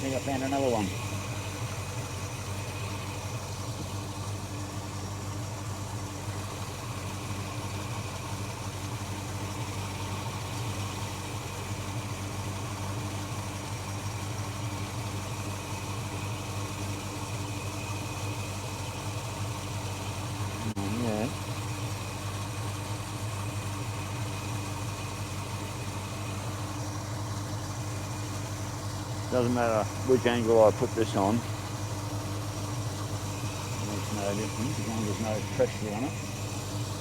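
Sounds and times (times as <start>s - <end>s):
engine humming steadily: 0.0s - 37.0s.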